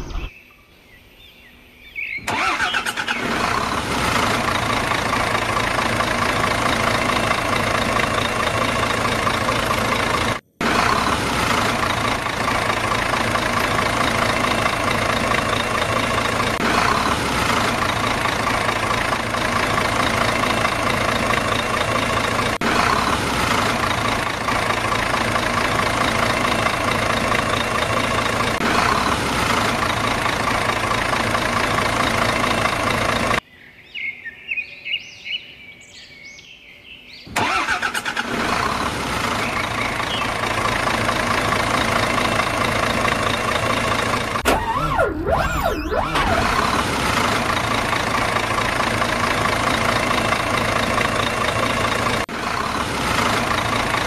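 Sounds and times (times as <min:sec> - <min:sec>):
vehicle engine idling: 0:02.3 - 0:33.4, 0:37.4 - 0:54.0.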